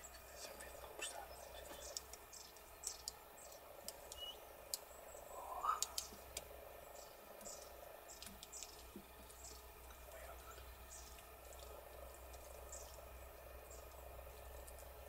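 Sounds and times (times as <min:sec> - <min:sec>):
woodpecker tapping on bark: 0:00.0 - 0:06.5, 0:07.4 - 0:15.0
small birds chirping: 0:00.0 - 0:15.0.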